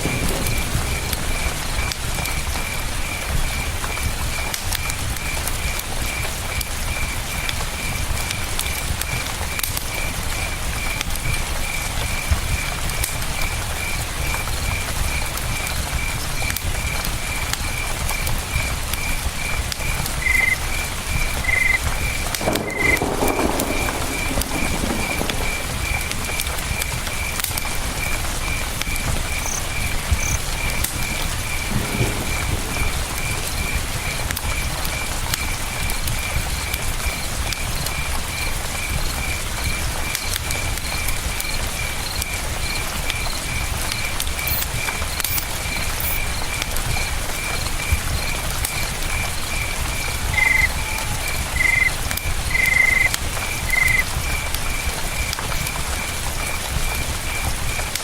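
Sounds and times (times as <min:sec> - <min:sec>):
cricket chirping: 0:00.0 - 0:09.2, 0:09.9 - 0:57.9
campfire crackling and popping: 0:00.0 - 0:58.0.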